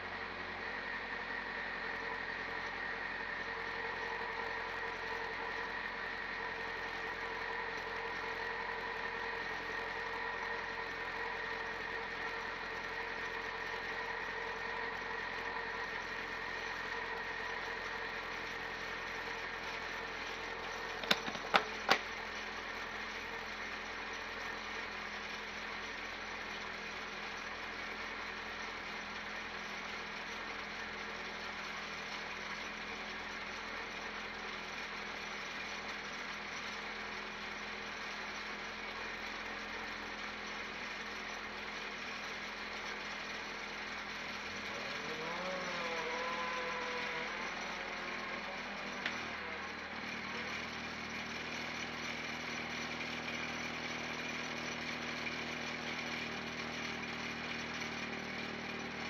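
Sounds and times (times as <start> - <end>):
car engine idling: 0.0 - 29.8, 32.9 - 59.0.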